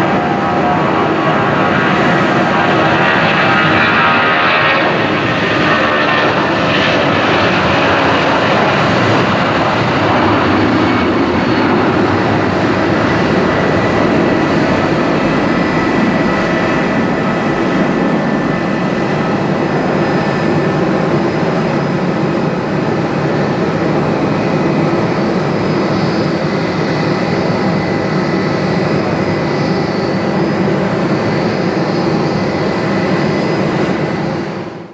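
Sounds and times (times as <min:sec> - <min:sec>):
jet engine noise: 0:00.0 - 0:34.9.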